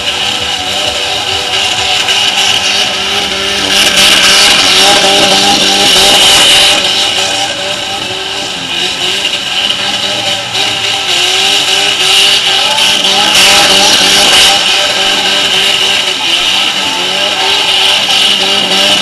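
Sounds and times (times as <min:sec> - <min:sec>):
car engine at high revs: 0:00.0 - 0:19.0
wheels spinning on dirt: 0:00.0 - 0:19.0.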